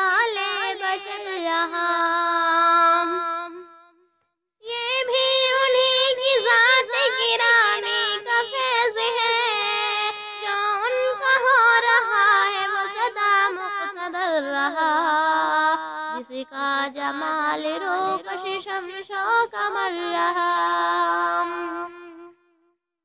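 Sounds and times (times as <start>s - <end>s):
person singing devotional song: 0.0s - 4.0s, 4.6s - 22.5s.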